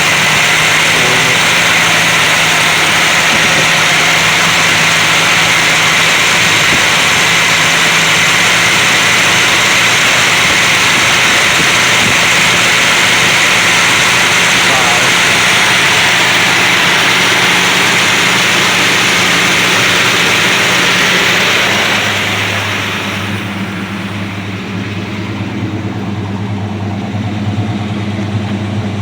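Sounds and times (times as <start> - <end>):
vee eight engine running: 0.0 - 29.0.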